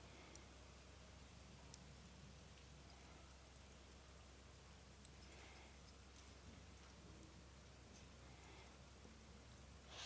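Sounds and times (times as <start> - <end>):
embers crackling: 0.0 - 10.0
faint low hum: 0.0 - 10.0.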